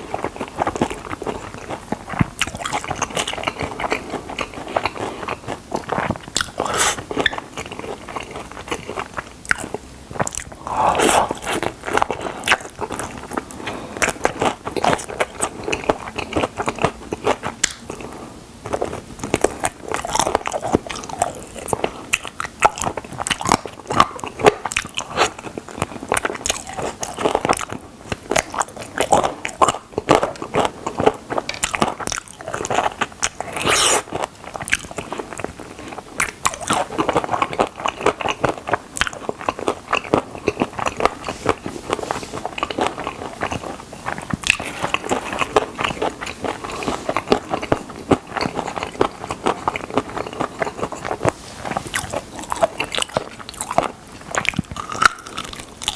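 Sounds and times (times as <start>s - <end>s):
wet chewing: 0.0s - 55.9s.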